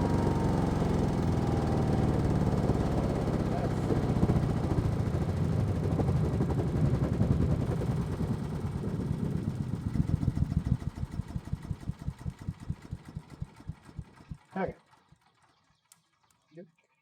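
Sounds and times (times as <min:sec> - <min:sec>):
small gasoline engine running: 0:00.0 - 0:15.9.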